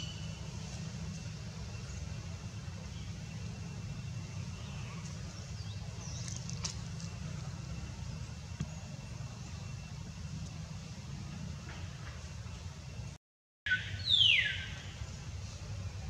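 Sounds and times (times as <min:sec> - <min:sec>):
low outdoor rumble: 0:00.0 - 0:13.2, 0:13.8 - 0:16.0.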